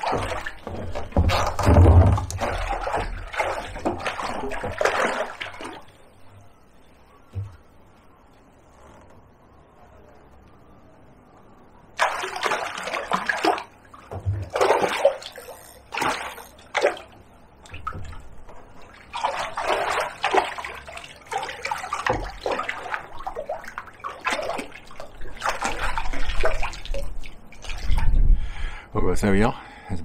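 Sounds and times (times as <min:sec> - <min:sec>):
water splashing and sloshing: 0:00.0 - 0:07.8, 0:11.9 - 0:28.6.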